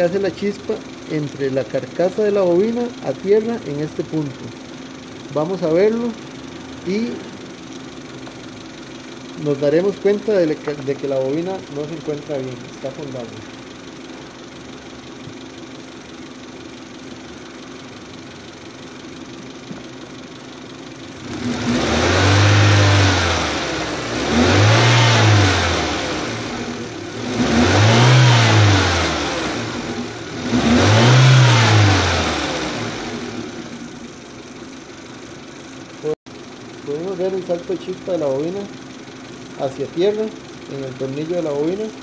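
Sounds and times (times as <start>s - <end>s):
car engine idling and revving: 0.0s - 42.0s.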